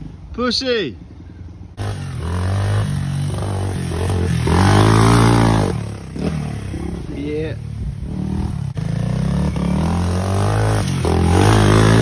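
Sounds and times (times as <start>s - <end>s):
dirt bike engine shifting gears: 1.8s - 12.0s.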